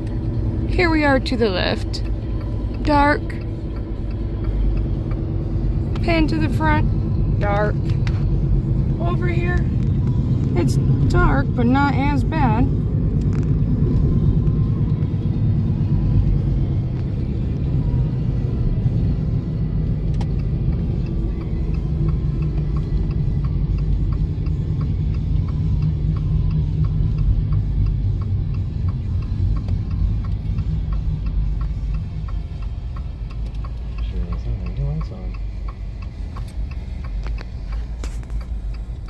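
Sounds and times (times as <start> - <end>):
car road and engine noise: 0.0 - 39.0
light ticking: 0.0 - 39.0.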